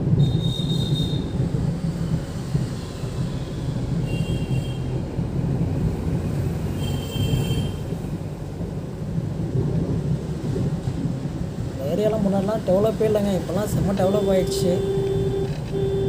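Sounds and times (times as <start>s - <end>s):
road and engine noise in car: 0.0s - 16.0s.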